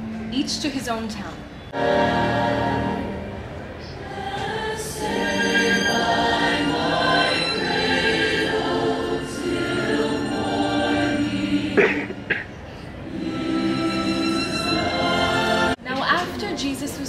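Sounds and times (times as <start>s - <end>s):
mass choir singing: 1.6s - 15.8s.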